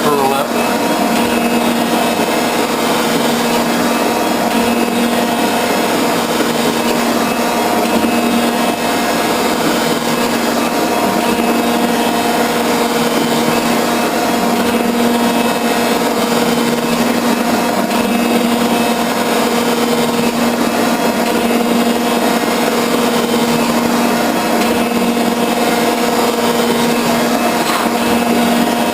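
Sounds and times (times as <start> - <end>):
metal shaper machine hum and hiss: 0.1 - 28.9.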